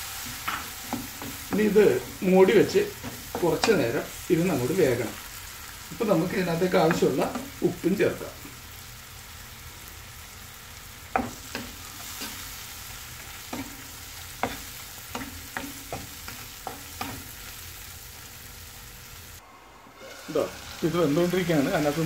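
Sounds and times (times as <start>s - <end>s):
prawns sizzling in oil: 0.0s - 22.0s.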